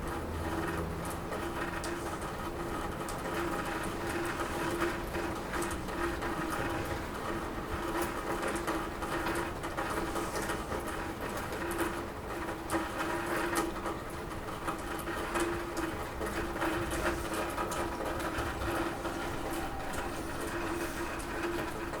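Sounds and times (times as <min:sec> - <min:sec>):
rain on a roof: 0:00.0 - 0:22.0.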